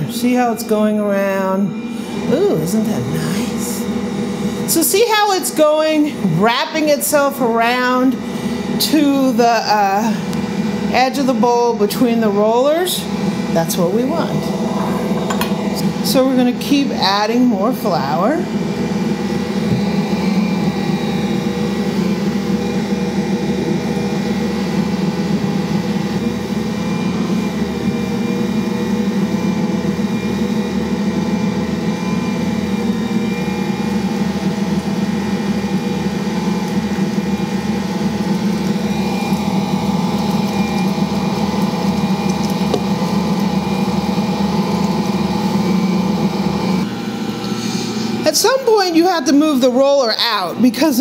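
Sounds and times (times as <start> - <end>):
stand mixer motor hum: 1.4 - 50.8.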